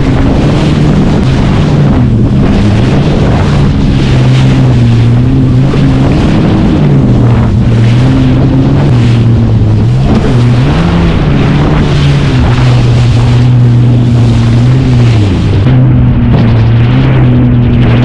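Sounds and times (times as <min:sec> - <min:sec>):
jet ski engine running: 0:00.0 - 0:18.0
water rushing: 0:00.0 - 0:18.0
wind buffeting microphone: 0:00.0 - 0:18.0.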